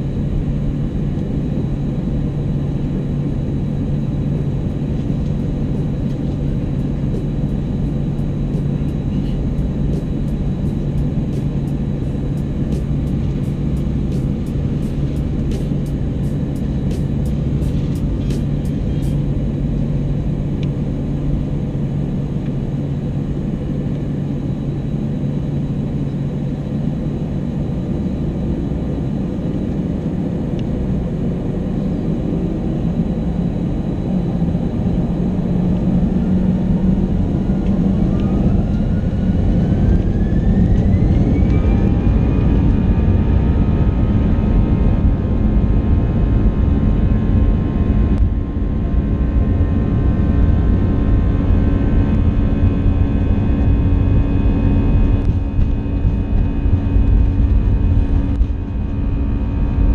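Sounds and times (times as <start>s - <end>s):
jet engine whine rising: 0.0s - 59.9s
jet engines rumbling: 0.0s - 59.9s.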